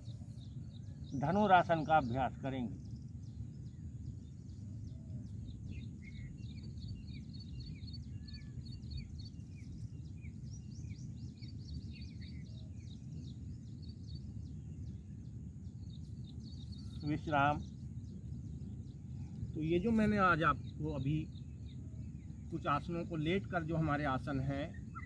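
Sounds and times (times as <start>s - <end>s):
birds chirping: 0.0s - 25.0s
low outdoor rumble: 0.0s - 25.0s.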